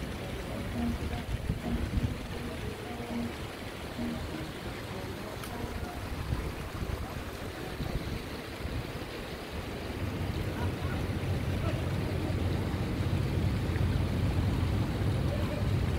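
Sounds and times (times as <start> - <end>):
stream rushing over rocks: 0.0 - 15.9
wind rumbling on microphone: 0.0 - 15.9.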